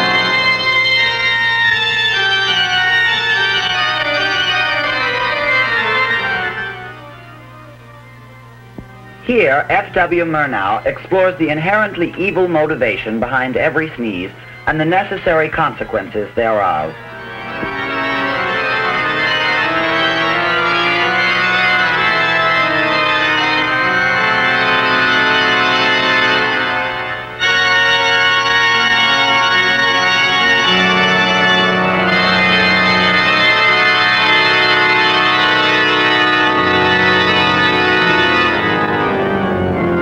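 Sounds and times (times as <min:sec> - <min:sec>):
organ music: 0:00.0 - 0:40.0.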